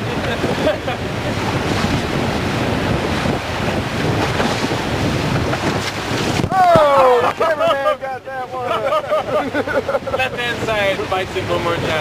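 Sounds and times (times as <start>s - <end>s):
whitewater rapids rushing: 0.0s - 12.0s
wind buffeting microphone: 0.0s - 12.0s.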